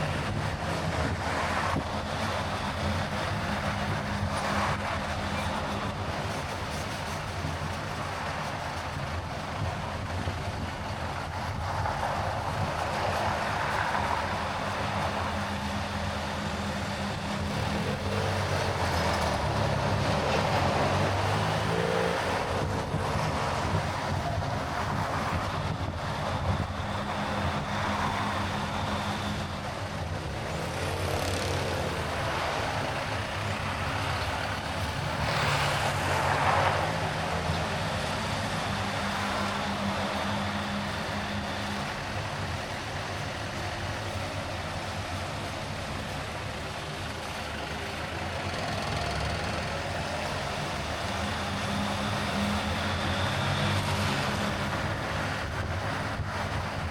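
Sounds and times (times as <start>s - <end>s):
car driving on highway: 0.0s - 56.9s.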